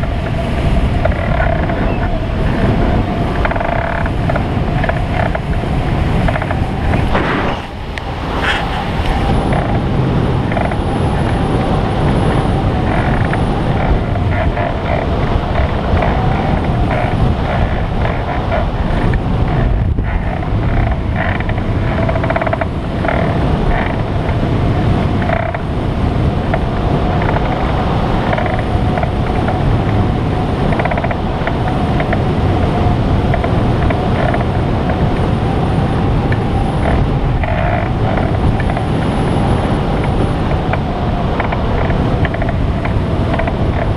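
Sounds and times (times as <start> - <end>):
wind rushing over microphone: 0.0 - 43.9.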